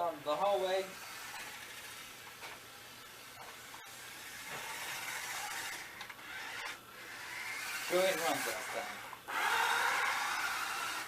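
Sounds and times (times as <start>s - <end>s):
toy car electric motor whirring: 0.4s - 2.4s, 3.2s - 11.0s.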